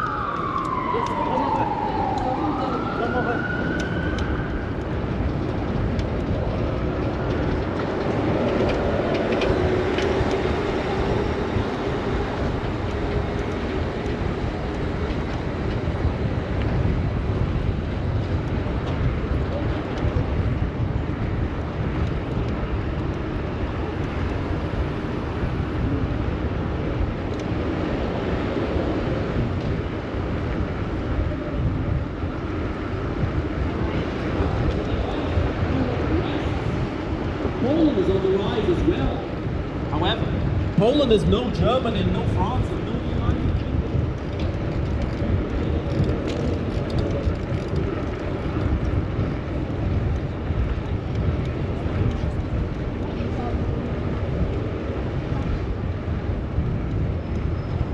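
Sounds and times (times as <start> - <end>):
city traffic rumble: 0.0 - 57.9
wind on microphone: 0.0 - 57.9.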